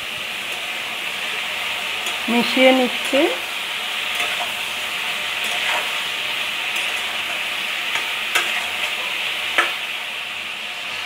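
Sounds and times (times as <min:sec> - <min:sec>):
vegetables sizzling in oil: 0:00.0 - 0:11.0
metal spatula scraping pan: 0:00.5 - 0:09.9.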